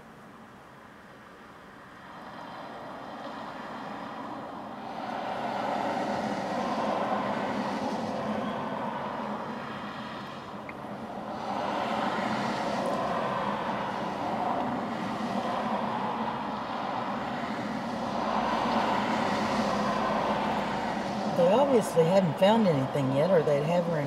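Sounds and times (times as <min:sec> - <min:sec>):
highway traffic rushing past: 0:00.0 - 0:24.0.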